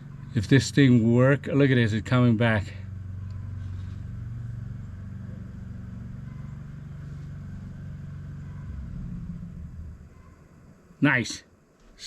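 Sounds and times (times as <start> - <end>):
electric heater fan hum: 0.0 - 12.0.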